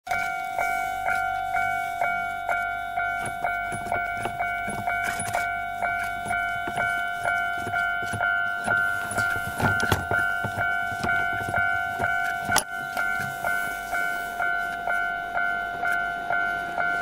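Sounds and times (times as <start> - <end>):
level crossing bell ringing: 0.1 - 17.0.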